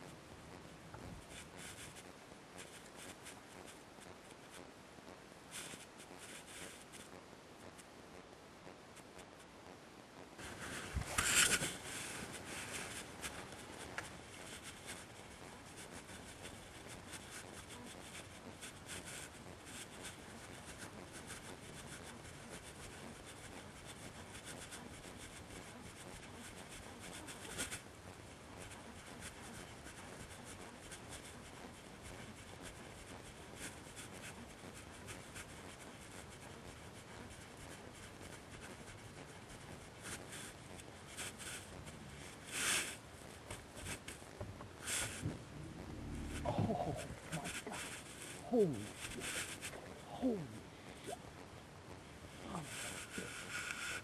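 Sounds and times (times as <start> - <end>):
faint steady hiss: 0.0 - 54.0
soft rubbing and scraping: 0.5 - 4.6, 5.5 - 7.2, 10.4 - 27.9, 28.5 - 51.2, 51.9 - 54.0.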